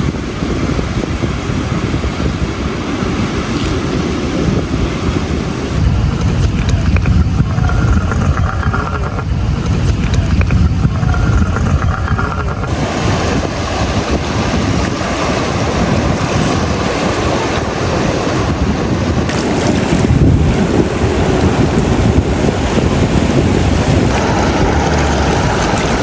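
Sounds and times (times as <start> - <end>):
surf waves: 0.0 - 9.8, 12.1 - 26.0
wind buffeting microphone: 0.0 - 26.0.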